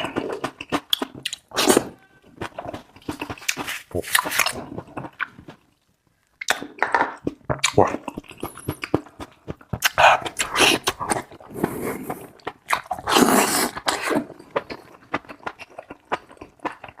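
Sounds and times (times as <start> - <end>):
person chewing with wet clicks: 0.0 - 17.0.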